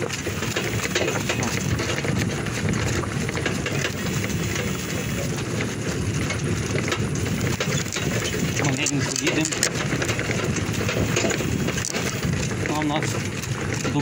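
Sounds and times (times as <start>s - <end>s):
horse-drawn wagon rumbling on road: 0.0s - 14.0s
wagon rattles and knocks: 0.0s - 14.0s.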